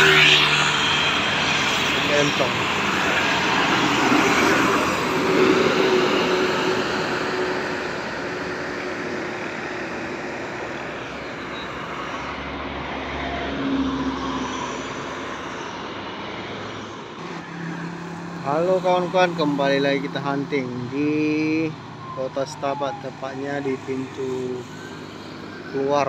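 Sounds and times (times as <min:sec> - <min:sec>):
bus and car driving past: 0:00.0 - 0:22.5
traffic hum: 0:00.0 - 0:26.0.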